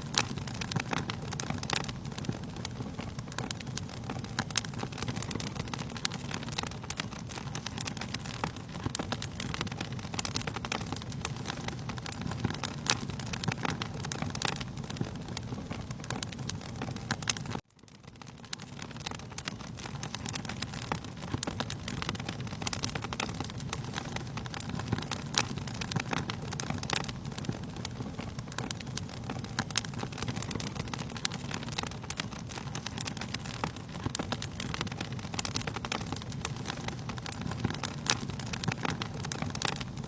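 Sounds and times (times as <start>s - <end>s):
low rumble of flames: 0.0s - 40.0s
wood fire crackling: 0.0s - 40.0s.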